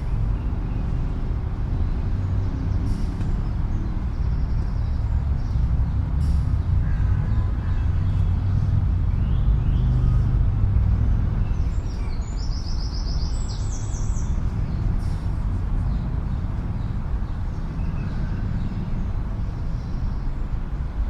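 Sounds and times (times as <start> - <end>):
low rumble of city traffic: 0.0 - 21.0.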